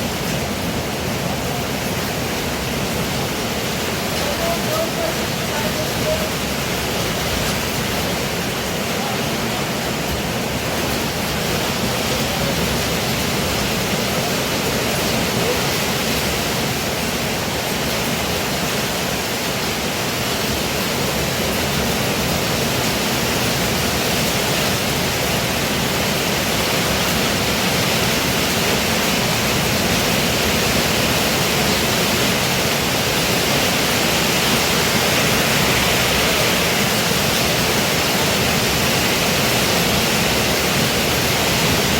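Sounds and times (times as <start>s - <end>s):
pouring rain: 0.0s - 41.9s.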